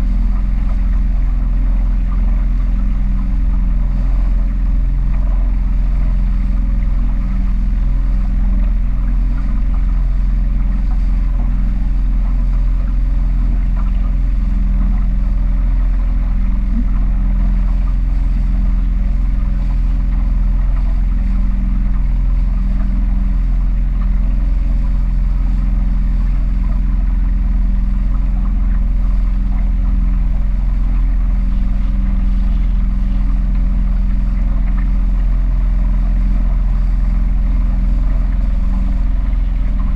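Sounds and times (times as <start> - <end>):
powerboat engine droning: 0.0 - 39.9.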